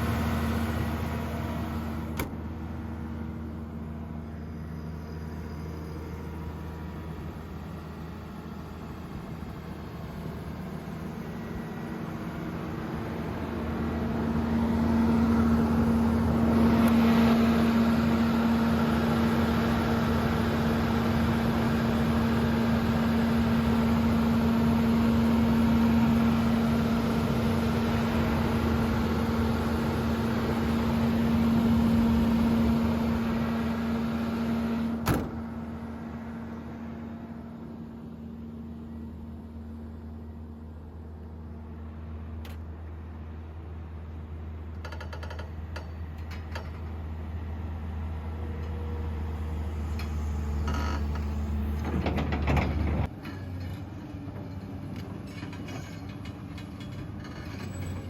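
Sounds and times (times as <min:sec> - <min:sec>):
excavator diesel engine humming: 0:00.0 - 0:58.0.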